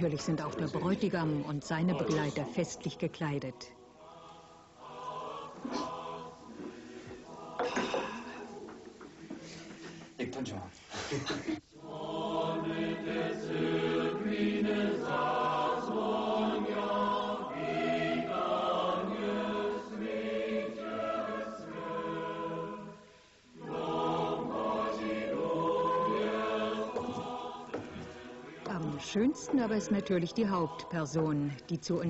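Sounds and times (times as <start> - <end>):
choir singing held chords: 0.0 - 10.0, 11.7 - 32.0.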